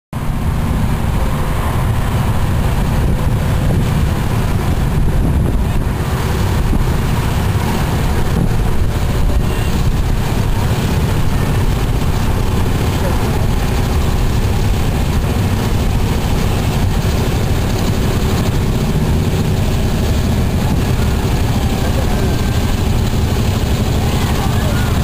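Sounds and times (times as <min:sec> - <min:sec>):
quad engines running: 0:00.2 - 0:25.0
wind rumble on microphone: 0:00.2 - 0:25.0.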